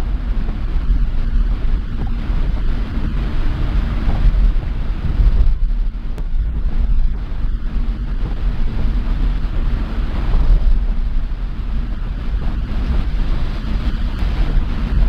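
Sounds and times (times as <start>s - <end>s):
bus engine and road rumble: 0.0s - 15.0s
rain on vehicle: 0.0s - 15.0s.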